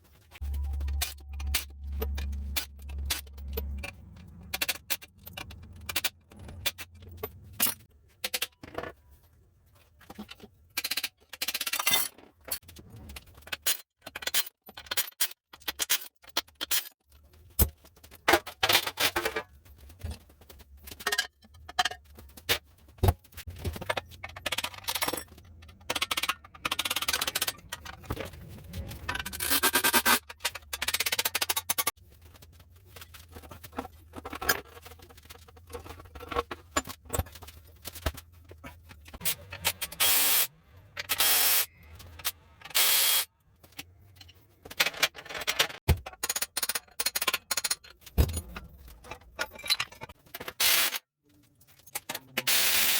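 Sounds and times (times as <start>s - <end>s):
metal tools clinking and scraping: 0.2s - 9.2s, 10.0s - 22.6s, 23.4s - 51.0s.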